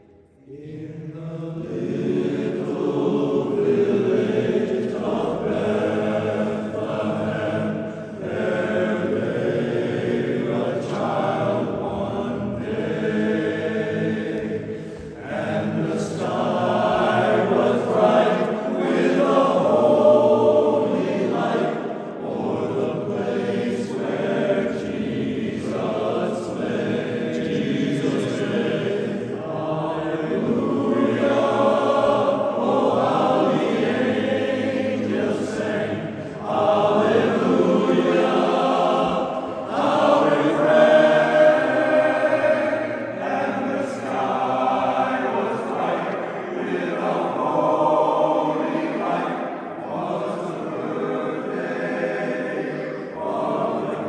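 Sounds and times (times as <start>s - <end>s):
barbershop chorus singing: 0.0s - 54.0s.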